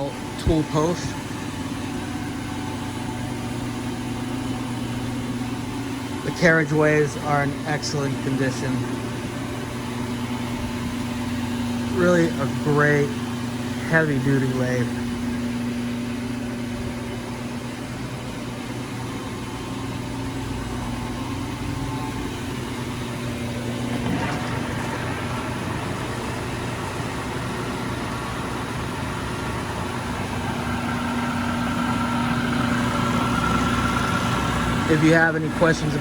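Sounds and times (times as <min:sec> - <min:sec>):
lathe motor humming: 0:00.0 - 0:36.0.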